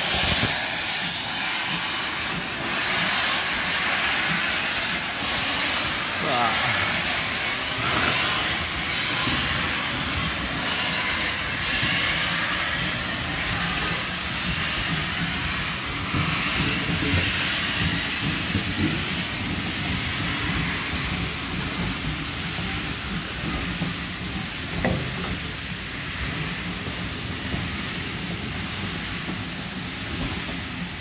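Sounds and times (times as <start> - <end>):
steam hissing: 0.0 - 31.0
train coaches rolling by: 0.0 - 31.0.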